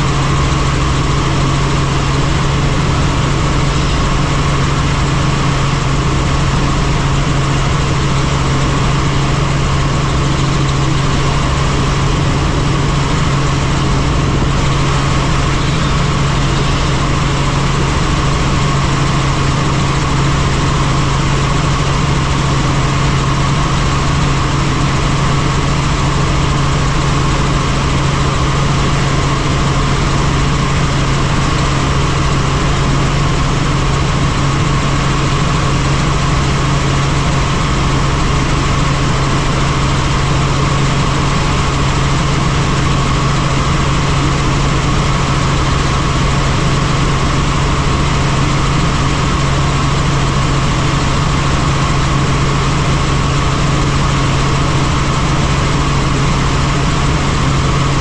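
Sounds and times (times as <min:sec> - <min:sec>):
helicopter running: 0:00.0 - 0:58.0.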